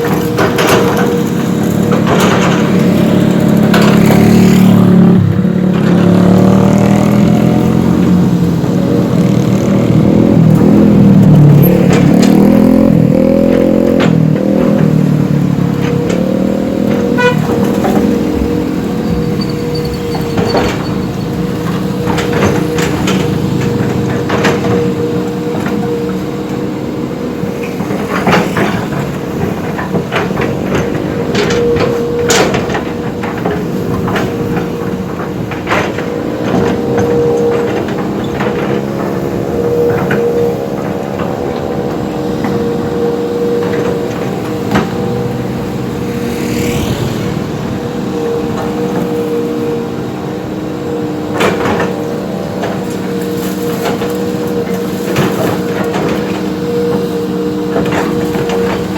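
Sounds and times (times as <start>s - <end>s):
metallic clanks and knocks: 0.0s - 49.7s, 50.8s - 58.9s
diesel machine engine revving: 0.0s - 58.9s.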